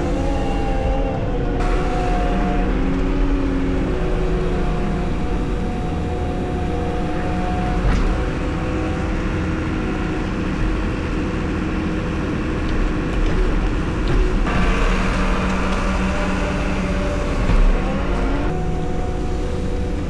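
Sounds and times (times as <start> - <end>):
farm machinery engine rumbling: 1.6 - 20.0.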